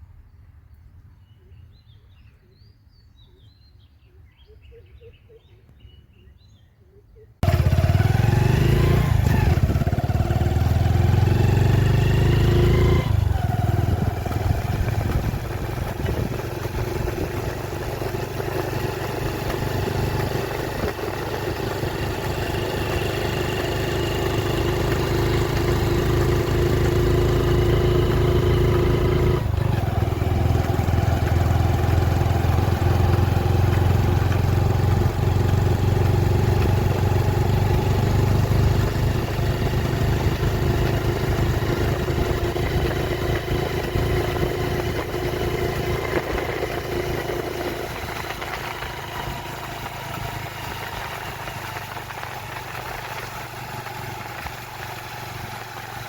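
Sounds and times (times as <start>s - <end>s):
vehicle engine running under load: 7.4s - 56.0s.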